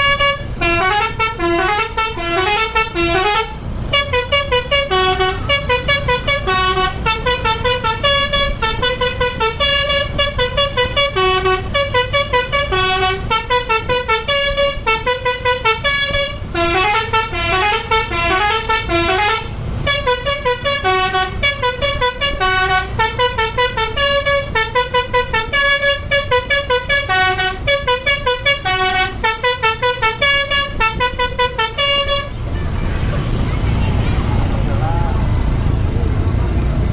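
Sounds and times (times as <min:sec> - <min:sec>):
musical bus horn tune: 0:00.0 - 0:34.2.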